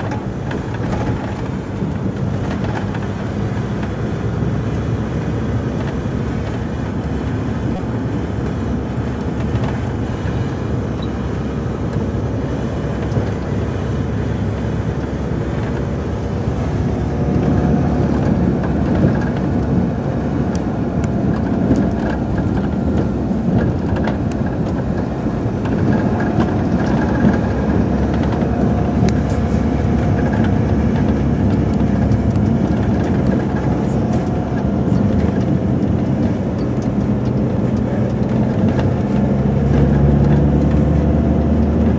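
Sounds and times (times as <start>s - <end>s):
diesel truck engine running: 0.0s - 41.9s
plow pushing snow: 0.0s - 41.9s.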